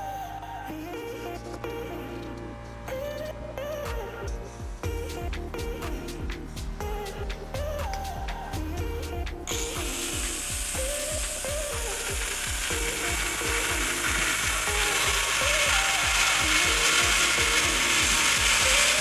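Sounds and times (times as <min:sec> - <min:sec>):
background music with steady beat: 0:00.0 - 0:19.0.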